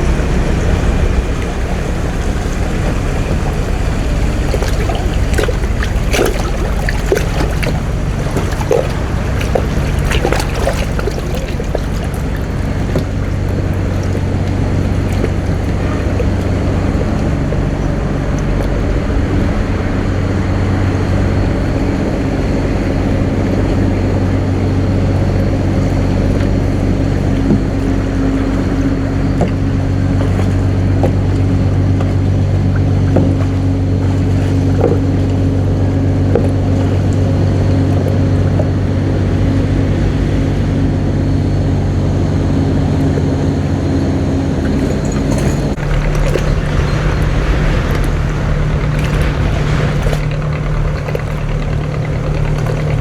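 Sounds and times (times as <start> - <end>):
boat engine running: 0.0 - 53.0
water and wind noise: 0.0 - 53.0.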